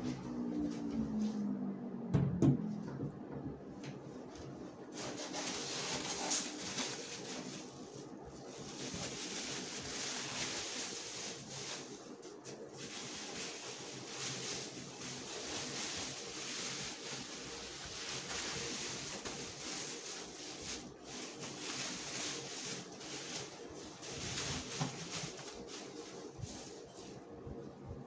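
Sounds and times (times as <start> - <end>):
bubble wrap rustling and crinkling: 4.2 - 27.4.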